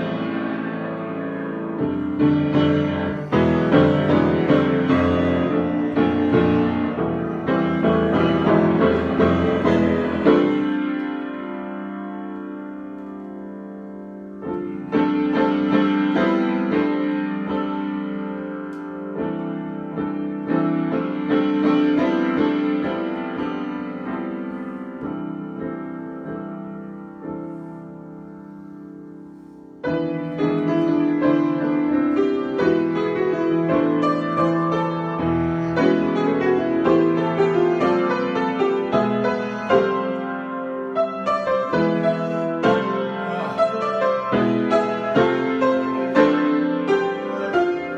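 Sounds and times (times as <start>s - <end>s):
solo piano: 0.0s - 47.9s.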